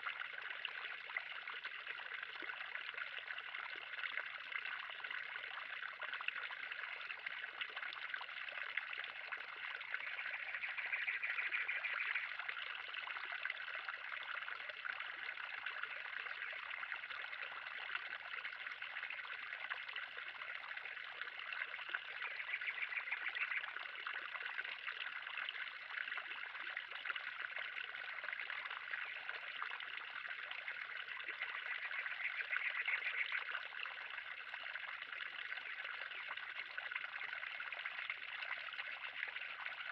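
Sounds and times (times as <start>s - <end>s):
water trickling in a pond: 0.0s - 39.9s.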